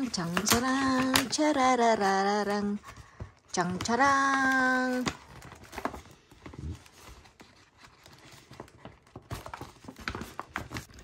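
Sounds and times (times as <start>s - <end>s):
paper bag crinkling: 0.0s - 11.0s.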